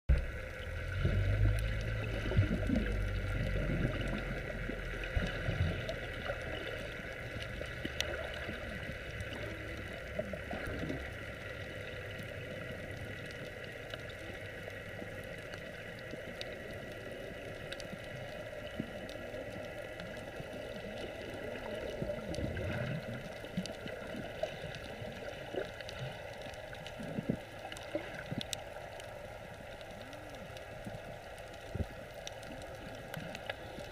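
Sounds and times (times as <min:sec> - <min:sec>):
faint clicks: 0:00.1 - 0:33.9
low bubbling rumble: 0:00.1 - 0:33.9
muffled underwater wash: 0:00.1 - 0:33.9
water gurgling: 0:00.1 - 0:33.9.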